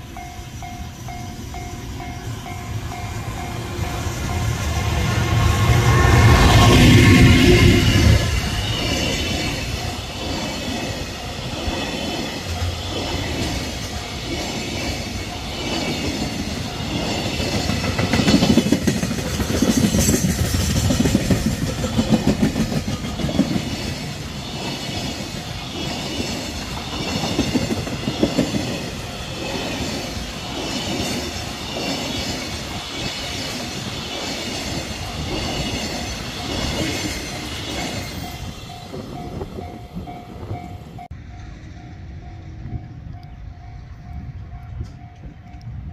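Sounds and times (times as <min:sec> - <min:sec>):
train wheels clacking on rails: 0:00.0 - 0:45.9.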